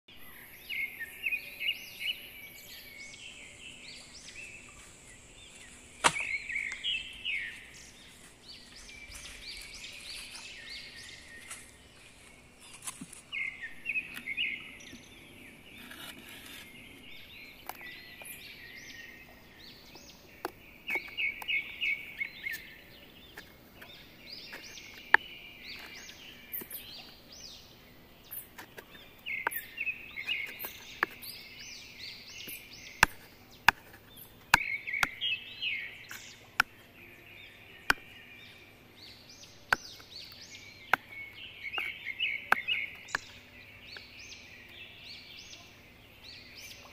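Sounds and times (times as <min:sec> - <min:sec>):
birds chattering: 0:00.1 - 0:46.9.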